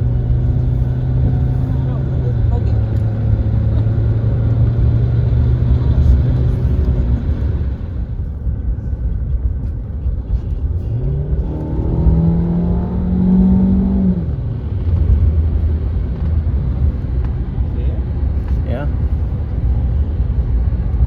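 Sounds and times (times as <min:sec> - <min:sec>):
car engine accelerating: 0:00.0 - 0:21.0
road rumble: 0:00.0 - 0:21.0.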